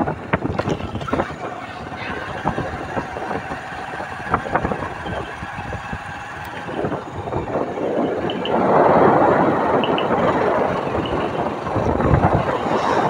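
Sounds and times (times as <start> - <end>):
motorcycle running noise: 0.0 - 13.0
rushing noise: 0.0 - 13.0.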